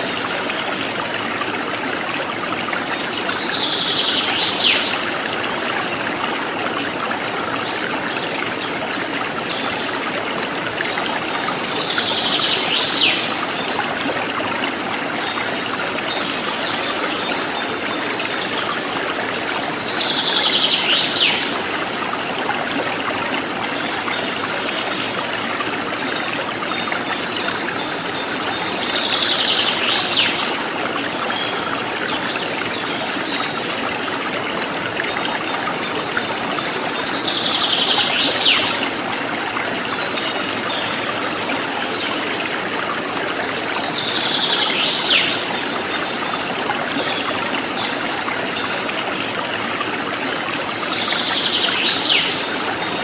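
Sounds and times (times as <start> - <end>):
forest stream trickling: 0.0 - 53.0.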